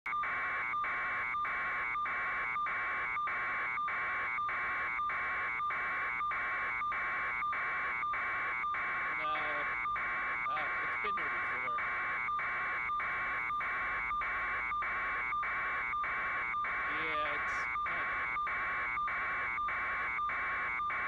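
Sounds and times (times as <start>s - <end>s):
pulsing electronic buzzing tone: 0.1s - 21.0s.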